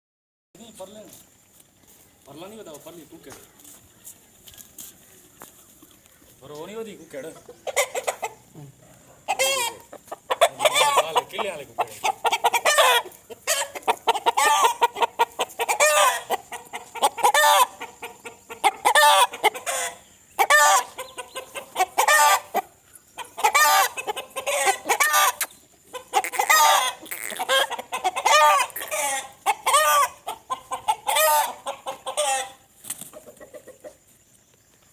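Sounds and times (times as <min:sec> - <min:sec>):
chickens clucking: 0:00.6 - 0:34.9.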